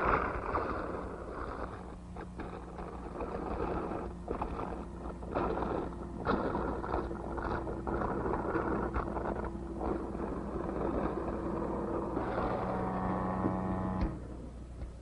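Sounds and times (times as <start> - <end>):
electric motor and gear drive humming: 0.0 - 15.0
high mechanical whine: 0.0 - 15.0.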